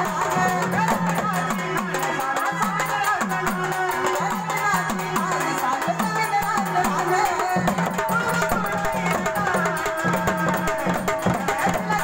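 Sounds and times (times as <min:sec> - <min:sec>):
hand drum beating: 0:00.0 - 0:12.0.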